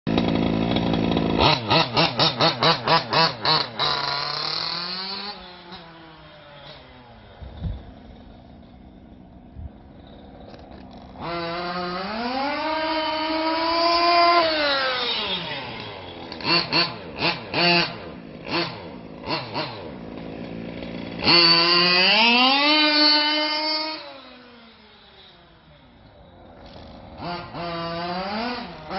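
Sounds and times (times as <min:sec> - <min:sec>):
two-stroke engine revving: 0:00.1 - 0:28.9.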